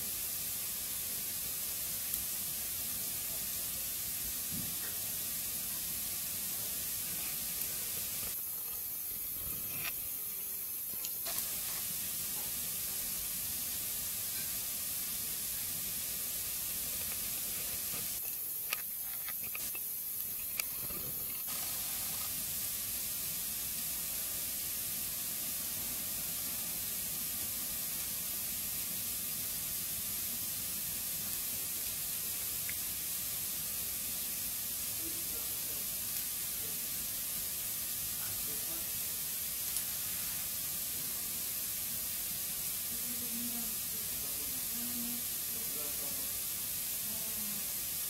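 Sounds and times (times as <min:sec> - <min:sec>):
burning wood crackles: 0:00.0 - 0:48.0
fire hissing: 0:00.0 - 0:48.0.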